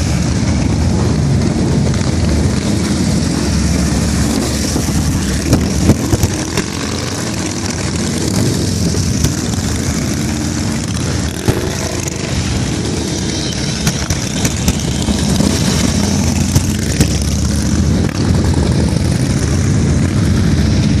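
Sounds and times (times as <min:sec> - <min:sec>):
motorcycles riding past: 0:00.0 - 0:21.0.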